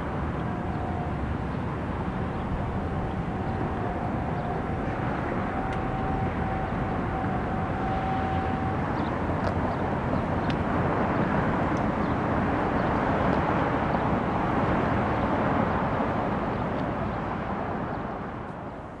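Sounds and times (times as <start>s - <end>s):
steady outdoor rumbling: 0.0s - 17.7s.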